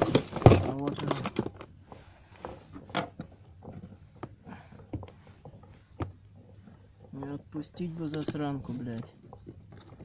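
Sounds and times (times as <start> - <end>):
faint rustling: 0.0 - 10.0.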